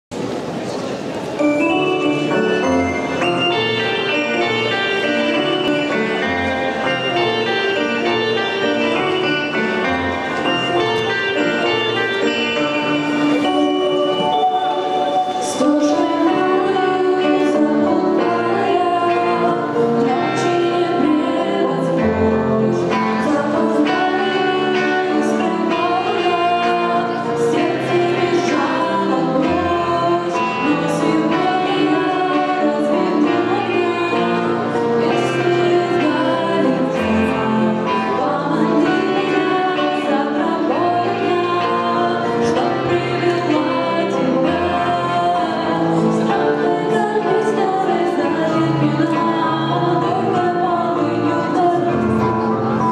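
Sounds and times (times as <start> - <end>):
keyboard: 0.1 - 52.9
person singing: 1.4 - 52.9
electric guitar: 1.9 - 52.9.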